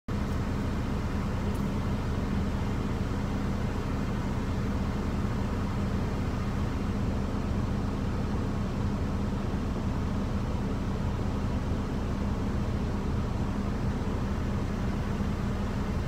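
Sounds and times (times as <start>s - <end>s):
truck engine idling: 0.1s - 16.0s.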